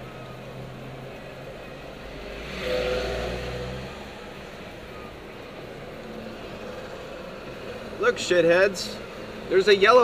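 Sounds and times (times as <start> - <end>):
passing vehicle: 0.0 - 10.0
road and engine noise in car: 0.0 - 10.0.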